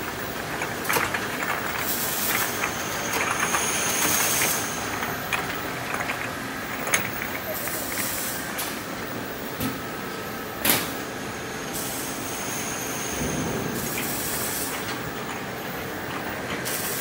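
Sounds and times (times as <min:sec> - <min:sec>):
bottle washing machine running: 0:00.0 - 0:17.0.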